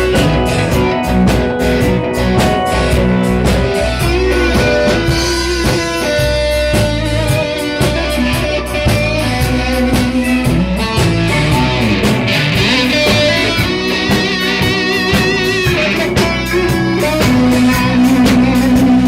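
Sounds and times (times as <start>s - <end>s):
bass: 0.0s - 19.0s
drum kit beat: 0.0s - 19.0s
electric guitar: 0.0s - 19.0s.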